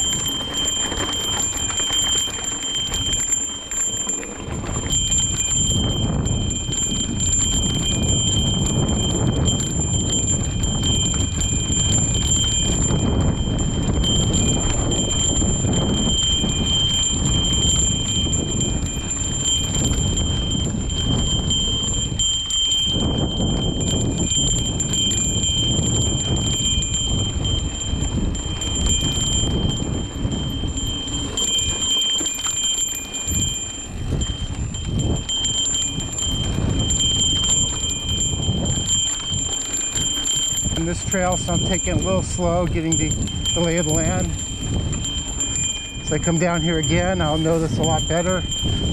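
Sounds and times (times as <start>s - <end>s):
bike bell ringing: 0.0s - 48.9s
low rumble of bike ride: 0.0s - 48.9s.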